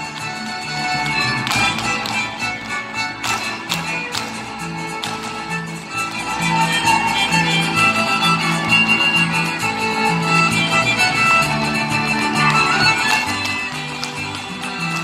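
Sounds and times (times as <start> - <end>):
guitar accompaniment: 0.0 - 15.0
violin melody: 0.0 - 15.0.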